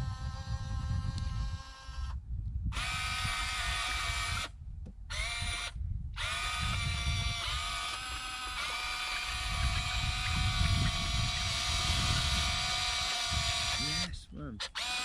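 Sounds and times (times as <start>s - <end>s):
electric motors whining: 0.0s - 4.5s, 5.1s - 15.0s.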